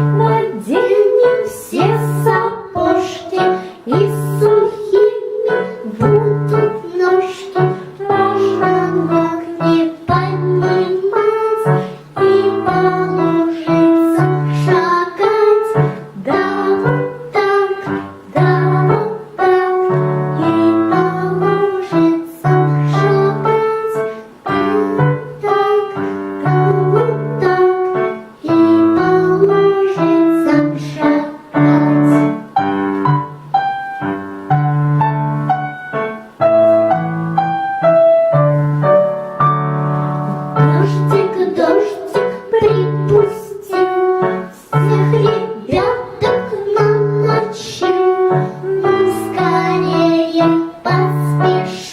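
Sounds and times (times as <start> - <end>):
child singing: 0.0 - 32.6, 40.2 - 51.9
piano backing track: 0.0 - 51.9.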